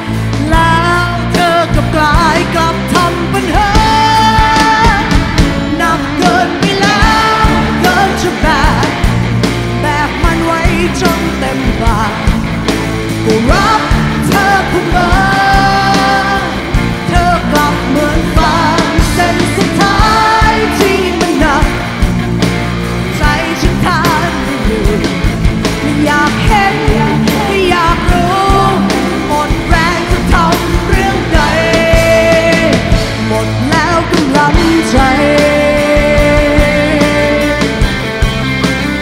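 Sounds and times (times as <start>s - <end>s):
rock band playing: 0.0s - 39.0s
woman singing: 0.3s - 12.5s, 13.2s - 22.0s, 23.1s - 37.9s.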